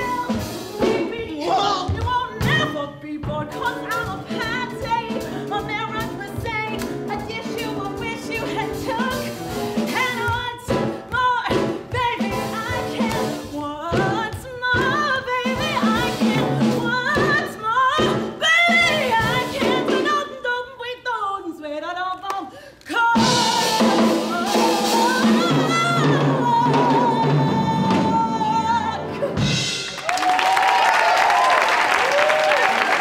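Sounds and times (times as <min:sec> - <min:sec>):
man and woman singing a duet: 0:00.0 - 0:10.7, 0:11.4 - 0:29.4.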